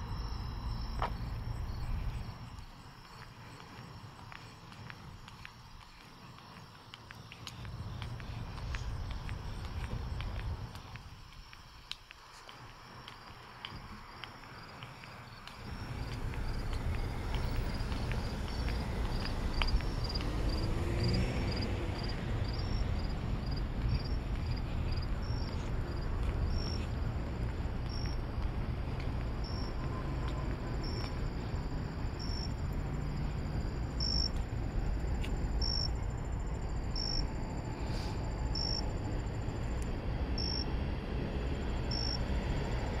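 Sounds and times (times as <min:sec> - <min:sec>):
cricket chirping: 0:00.0 - 0:43.0
steady low rumble: 0:00.0 - 0:43.0.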